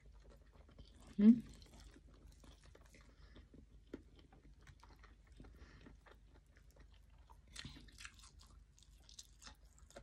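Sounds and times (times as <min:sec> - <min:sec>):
faint close-up chewing: 0:00.0 - 0:10.0.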